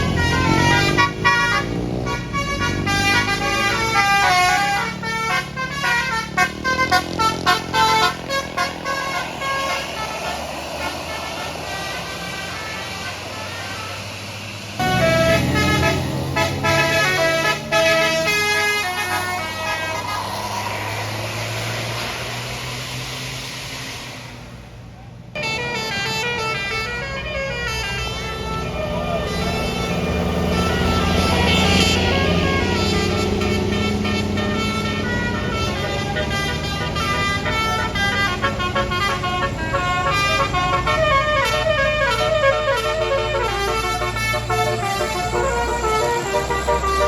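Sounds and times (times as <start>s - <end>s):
bus musical horn tune: 0.0s - 22.5s, 25.4s - 47.0s
bus engine and tyre noise: 0.0s - 47.0s.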